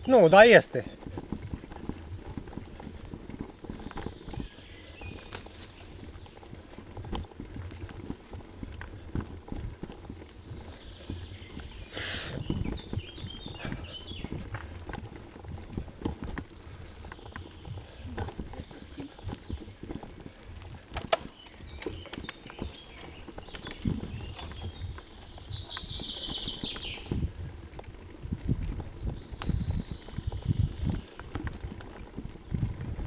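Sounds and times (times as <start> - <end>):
mountain bike rattling and knocking: 0.0 - 33.0
tyres rumbling on dirt: 0.0 - 33.0.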